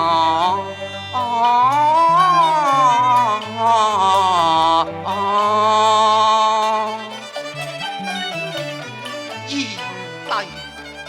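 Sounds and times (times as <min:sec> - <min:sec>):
instrumental ensemble: 0:00.0 - 0:11.0.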